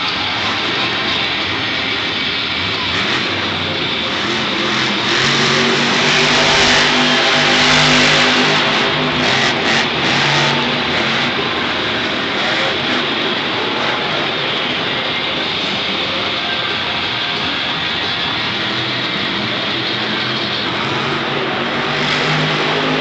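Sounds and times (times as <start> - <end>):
arena crowd noise: 0.0 - 23.0
monster truck engines revving: 0.0 - 23.0.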